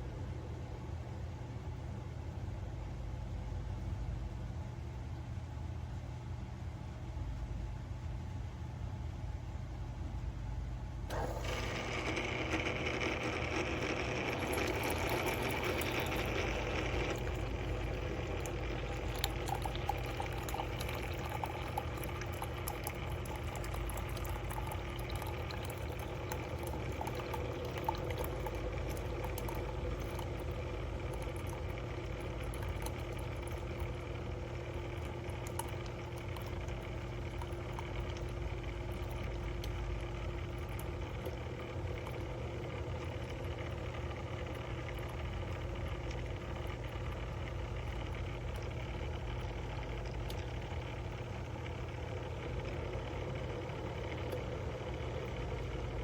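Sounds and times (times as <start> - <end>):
coffee maker humming: 0.0 - 1.3, 11.0 - 56.0.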